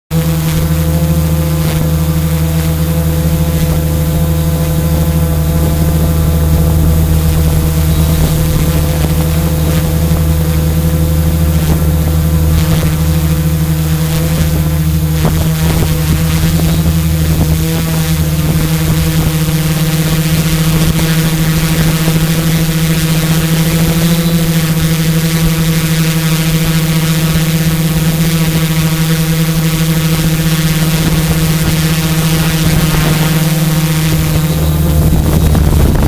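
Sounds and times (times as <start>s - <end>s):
drone motors and propellers humming: 0.1s - 36.0s.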